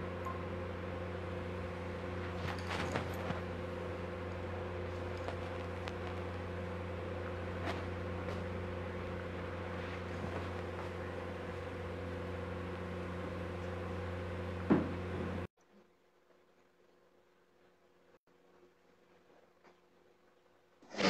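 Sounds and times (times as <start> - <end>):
low machine hum: 0.0 - 20.8.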